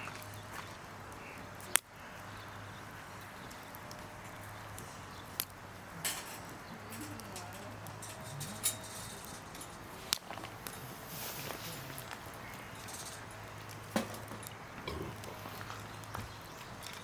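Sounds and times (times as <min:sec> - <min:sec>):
campfire popping: 0:00.0 - 0:17.0.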